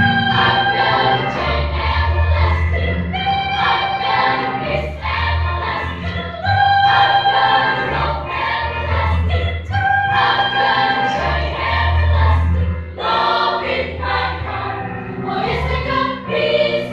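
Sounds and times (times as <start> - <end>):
children's choir singing: 0.0 - 16.9.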